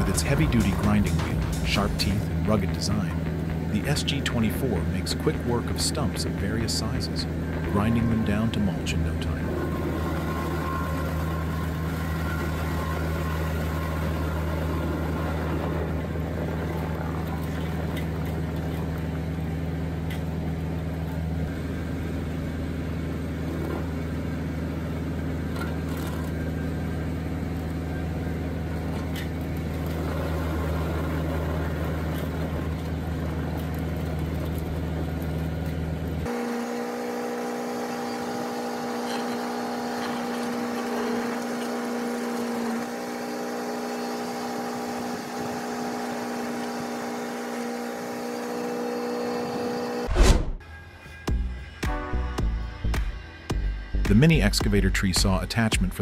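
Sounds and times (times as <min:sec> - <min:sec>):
tractor engine running: 0:00.0 - 0:50.2
machine with higher steady hum: 0:00.0 - 0:54.5.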